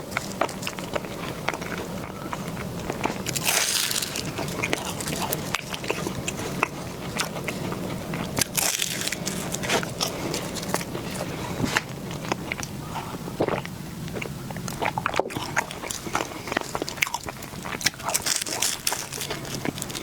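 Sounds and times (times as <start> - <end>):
chewing cake crunchily: 0.0 - 20.0.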